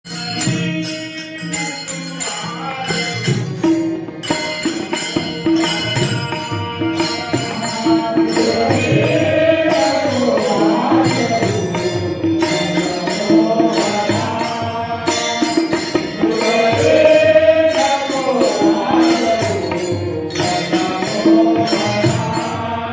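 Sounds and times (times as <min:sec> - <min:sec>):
percussion rhythm with jingles: 0:00.0 - 0:22.9
sustained pitched accompaniment: 0:00.1 - 0:22.9.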